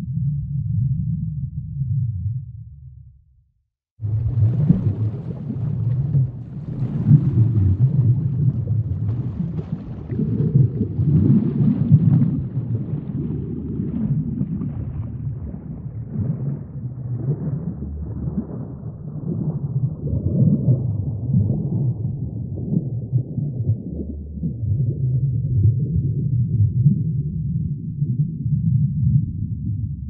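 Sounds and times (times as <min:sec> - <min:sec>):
deep underwater rumble: 0:00.0 - 0:30.0.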